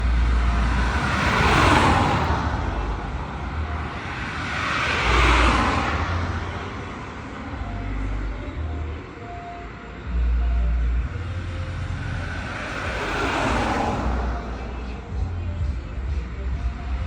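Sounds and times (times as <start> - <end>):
highway traffic rumble: 0.0 - 17.0
vehicles passing close by: 0.0 - 17.0.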